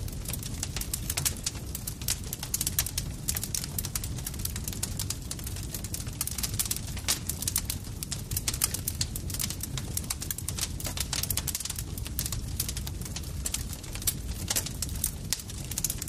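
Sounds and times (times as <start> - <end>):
burning wood popping and snapping: 0.0 - 16.0
low rumble of flames: 0.0 - 16.0.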